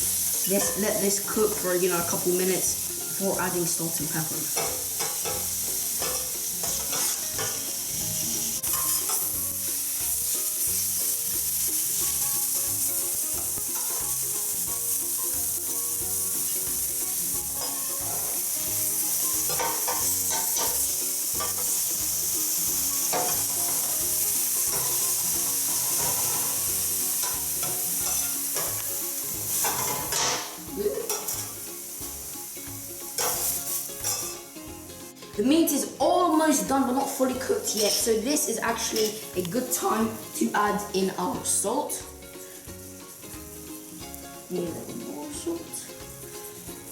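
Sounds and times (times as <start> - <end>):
meat sizzling in oil: 0.0 - 46.9.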